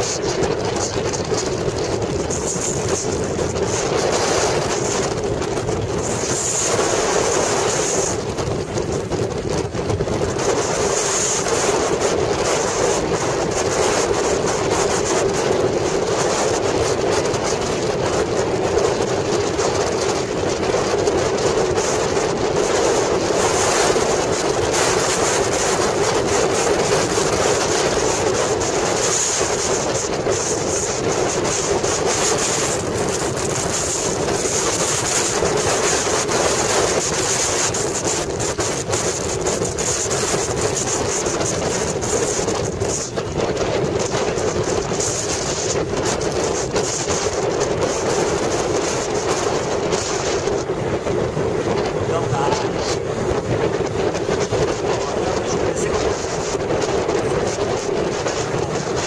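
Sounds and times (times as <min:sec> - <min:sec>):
wind and road noise: 0:00.0 - 0:59.0
wind buffeting microphone: 0:00.0 - 0:59.0.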